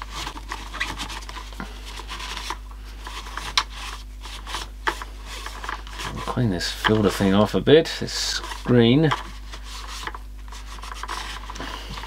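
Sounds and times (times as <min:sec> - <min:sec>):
cloth rubbing on plastic: 0:00.0 - 0:07.4, 0:08.2 - 0:12.0.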